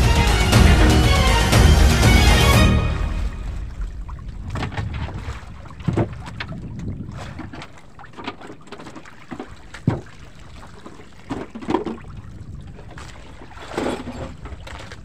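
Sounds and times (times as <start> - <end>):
wind: 2.0 - 15.0
water splashing against boat: 2.4 - 15.0.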